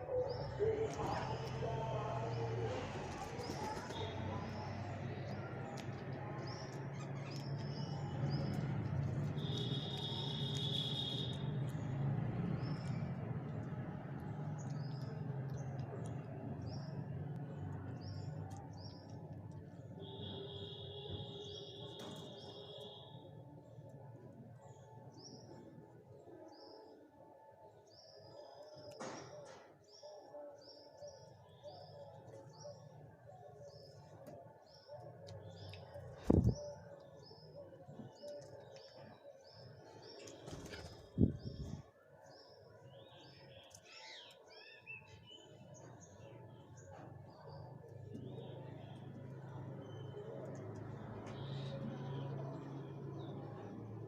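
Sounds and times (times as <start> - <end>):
small birds chirping: 0.0 - 24.0, 27.8 - 54.0.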